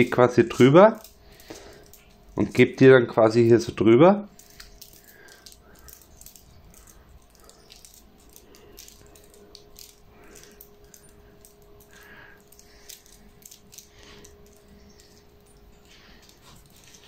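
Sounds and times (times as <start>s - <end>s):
paper cone crinkling and clicking: 0.0s - 17.0s
steady low hum: 0.0s - 17.0s.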